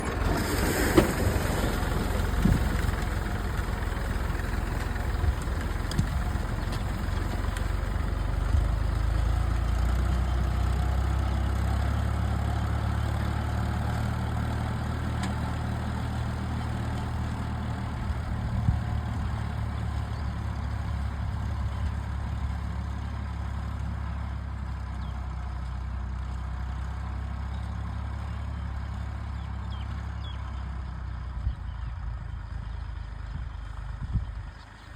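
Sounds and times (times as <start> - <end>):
tractor engine droning: 0.0 - 34.9.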